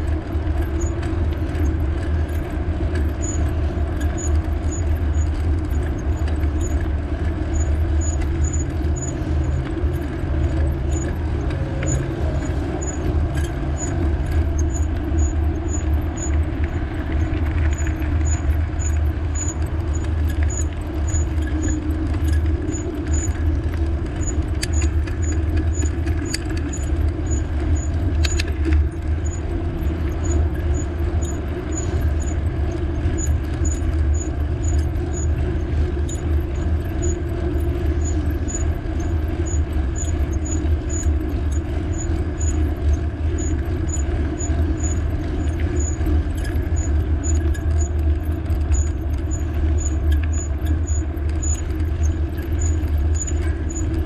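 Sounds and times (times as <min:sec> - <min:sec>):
bicycle road noise: 0:00.0 - 0:54.0
wind rumble: 0:00.0 - 0:54.0.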